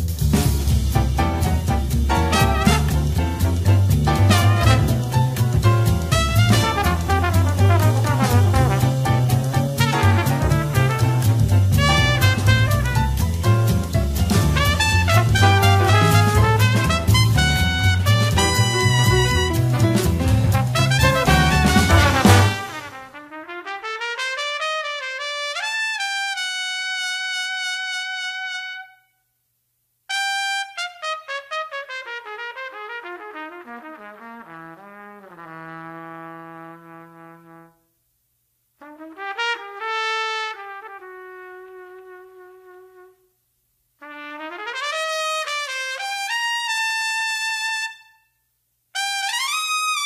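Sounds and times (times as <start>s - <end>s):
solo trumpet playing: 2.1s - 13.3s, 14.4s - 29.2s, 30.1s - 37.8s, 38.8s - 43.3s, 44.0s - 50.0s.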